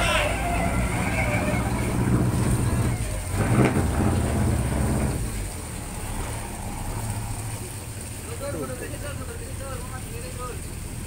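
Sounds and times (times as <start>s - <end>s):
boat engine throbbing: 0.0s - 11.0s
water churning: 0.0s - 11.0s.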